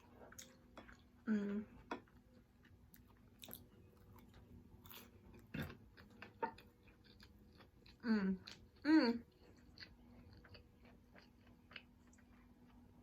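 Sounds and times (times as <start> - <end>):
chewing and biting food: 2.0 - 13.0.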